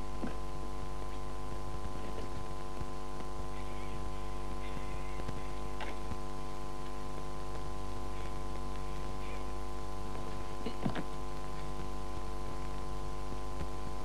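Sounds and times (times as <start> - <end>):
electrical hum: 0.0 - 14.0
faint rustles: 0.2 - 13.9.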